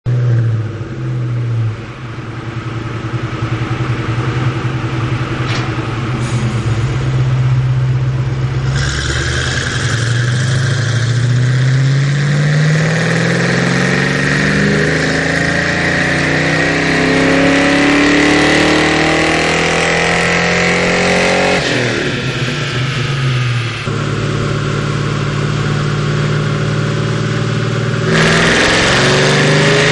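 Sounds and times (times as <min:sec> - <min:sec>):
car engine revving: 0:00.1 - 0:29.9.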